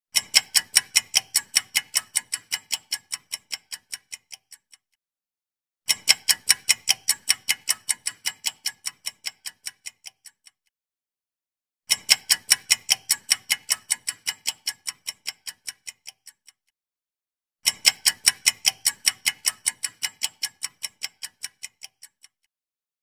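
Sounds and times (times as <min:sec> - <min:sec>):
quick clock ticks: 0:00.2 - 0:05.0, 0:05.9 - 0:10.7, 0:11.9 - 0:16.7, 0:17.6 - 0:22.5.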